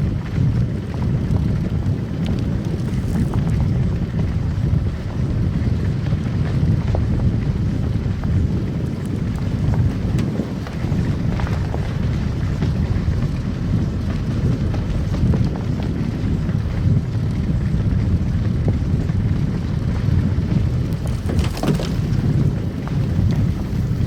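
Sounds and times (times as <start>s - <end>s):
car tyres and engine rumbling: 0.0s - 24.0s
sharp clicks and crackles: 0.2s - 17.9s, 18.7s - 24.0s.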